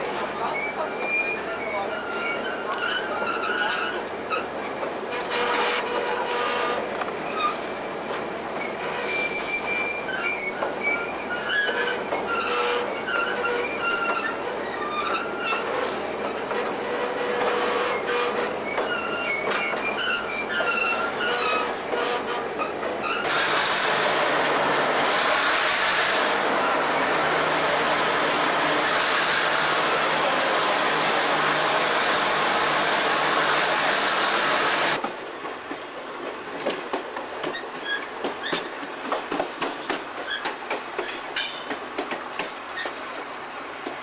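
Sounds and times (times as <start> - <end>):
train rumble and rail clatter: 0.0 - 44.0
wheels squealing on rails: 0.2 - 7.9, 8.6 - 35.2, 37.4 - 43.3.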